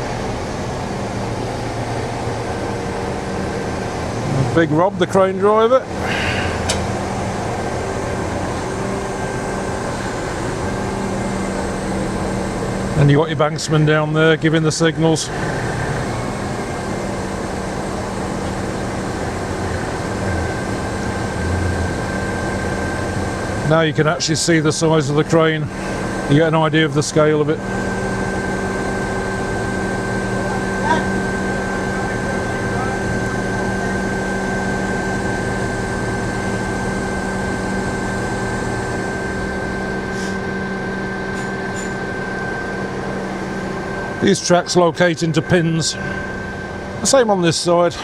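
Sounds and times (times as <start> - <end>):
crane diesel hum: 0.0 - 48.0
high-pitched machinery whine: 0.0 - 48.0.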